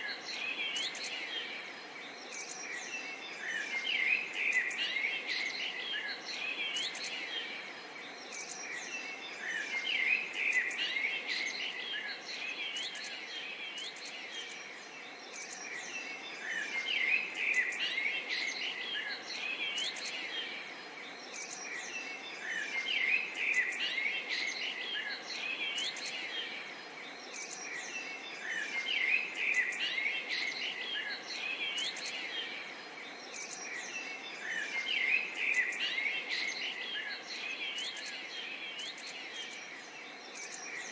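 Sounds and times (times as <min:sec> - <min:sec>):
faint steady hiss: 0:00.0 - 0:40.9
small birds chirping: 0:00.0 - 0:40.9.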